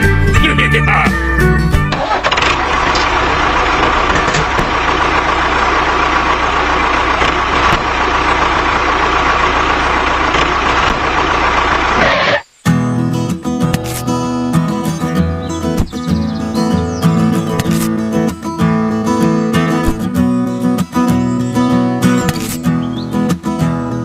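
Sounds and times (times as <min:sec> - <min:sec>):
small diesel engine running: 0:01.2 - 0:12.4, 0:15.0 - 0:24.0.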